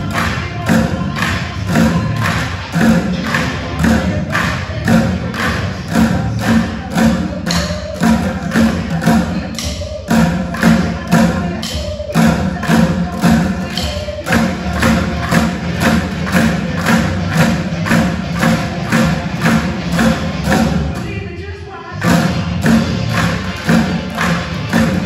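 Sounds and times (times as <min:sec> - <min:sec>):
drumsticks striking plastic buckets: 0:00.0 - 0:21.1, 0:22.0 - 0:25.0.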